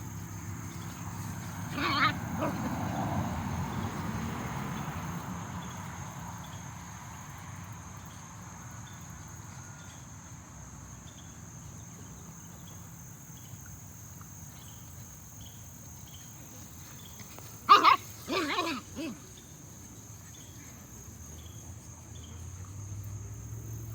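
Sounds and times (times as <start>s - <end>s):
insects buzzing: 0.0s - 23.9s.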